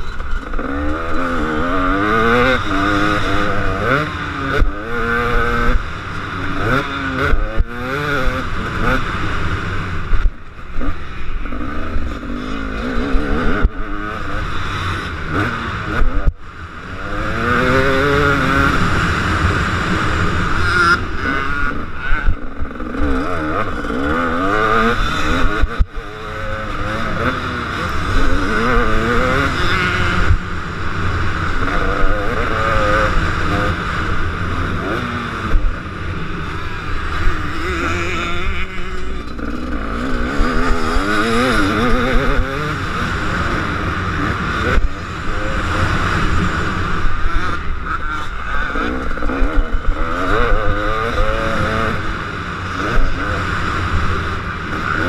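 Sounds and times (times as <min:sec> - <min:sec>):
motocross motorcycle engine revving: 0:00.0 - 0:55.0.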